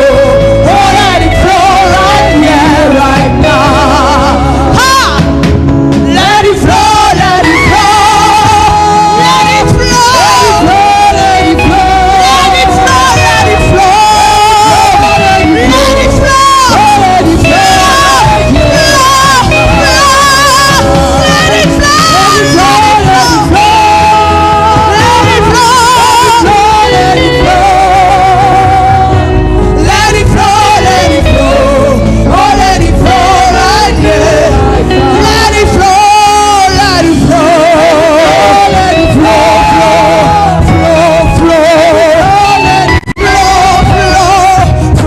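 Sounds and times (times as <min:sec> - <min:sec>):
steady bass: 0:00.0 - 0:45.0
sustained keyboard chords: 0:00.0 - 0:45.0
worship singing with vibrato: 0:00.0 - 0:45.0.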